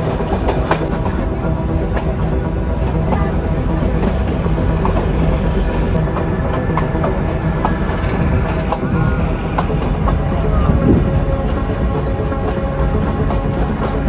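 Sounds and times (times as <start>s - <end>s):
train wheels clicking and squeaking: 0.0s - 13.5s
train carriage rumbling: 0.0s - 14.0s.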